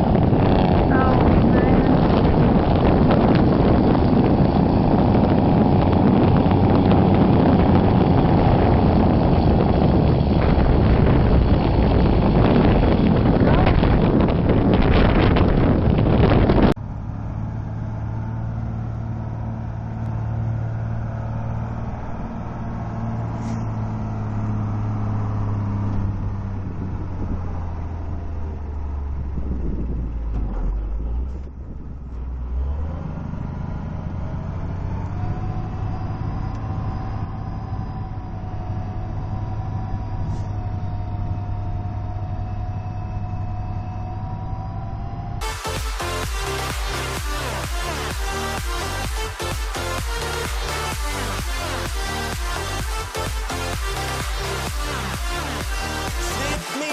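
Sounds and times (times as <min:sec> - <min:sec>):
heavy machine engine running: 0:00.0 - 0:56.9.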